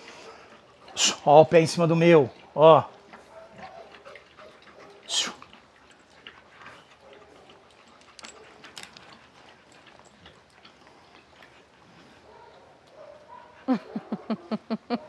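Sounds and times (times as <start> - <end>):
faint dog sounds: 0.0 - 15.0.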